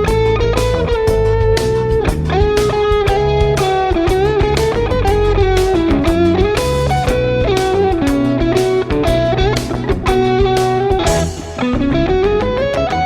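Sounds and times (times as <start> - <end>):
backing track drums and bass: 0.0 - 13.0
electric guitar lead melody: 0.0 - 13.0.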